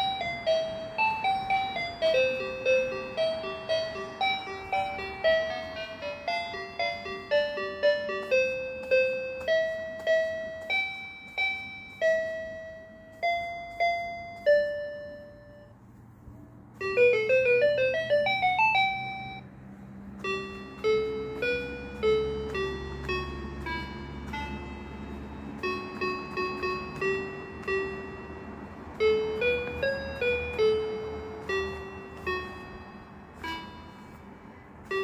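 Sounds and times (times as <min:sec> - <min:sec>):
electronic keyboard mat notes: 0:00.0 - 0:35.0.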